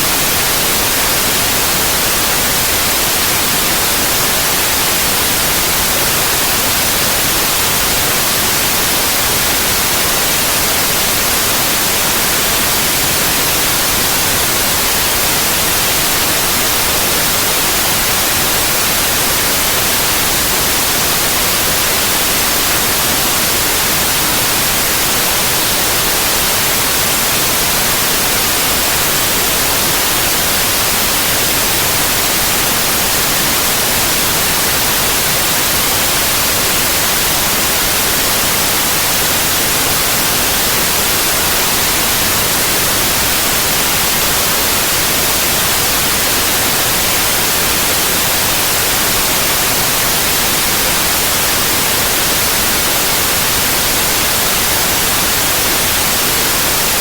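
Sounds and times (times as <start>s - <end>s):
steady white noise: 0.0s - 57.0s.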